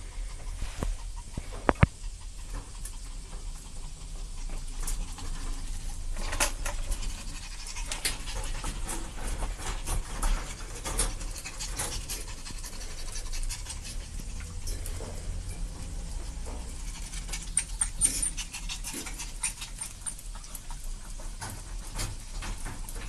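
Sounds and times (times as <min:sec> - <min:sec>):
puppies panting and snuffling: 0:00.0 - 0:23.0.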